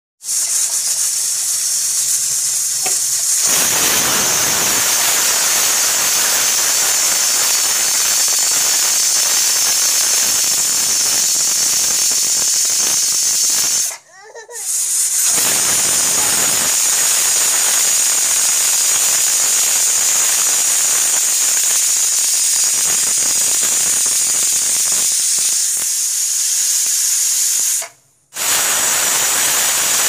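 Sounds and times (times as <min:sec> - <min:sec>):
pressure cooker steam hiss: 0:00.2 - 0:30.0.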